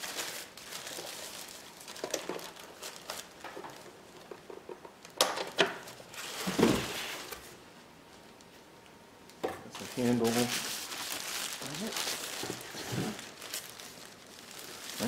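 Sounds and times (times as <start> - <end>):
packing wrap rustling: 0.0 - 5.2, 5.8 - 7.5, 9.7 - 15.0.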